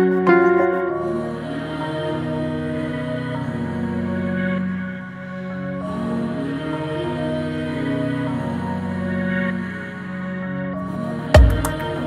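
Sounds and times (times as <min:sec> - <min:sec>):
ambient music of held tones: 0:00.0 - 0:12.0.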